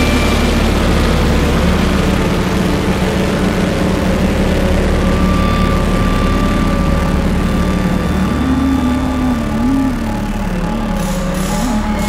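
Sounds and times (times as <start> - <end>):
quadcopter motors buzzing: 0.0 - 12.0
thin motor whine: 0.0 - 12.0.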